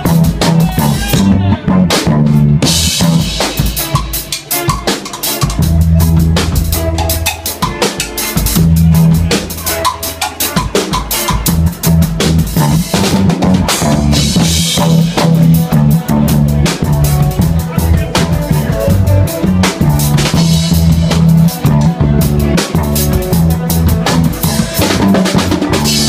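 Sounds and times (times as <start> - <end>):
deep bass notes: 0.0 - 4.0, 5.4 - 26.0
drum kit played hard: 0.0 - 26.0
electric guitar: 0.0 - 26.0.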